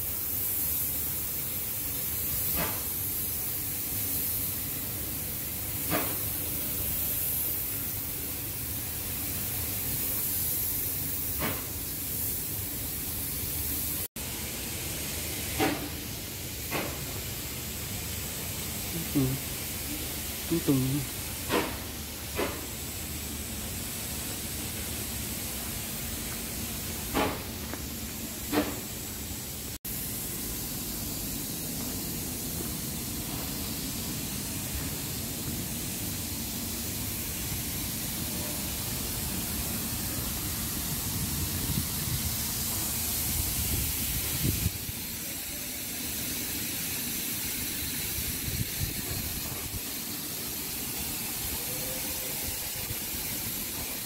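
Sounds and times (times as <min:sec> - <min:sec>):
steady hissing noise: 0:00.0 - 0:54.0.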